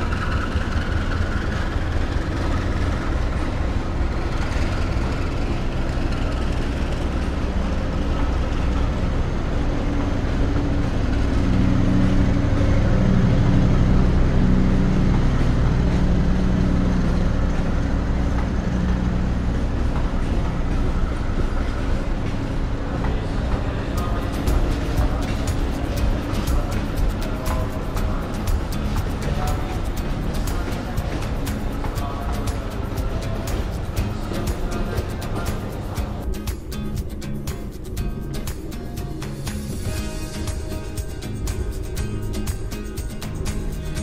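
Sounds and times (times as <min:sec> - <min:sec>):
diesel engine rumble: 0:00.0 - 0:44.0
train wheels rolling on rails: 0:00.0 - 0:44.0.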